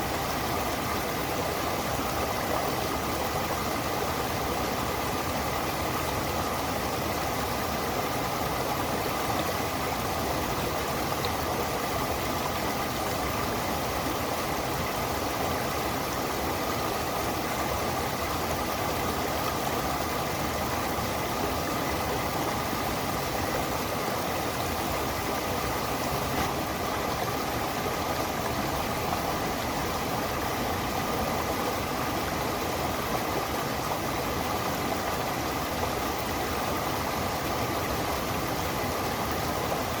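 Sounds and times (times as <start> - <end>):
stream running water: 0.0 - 40.0.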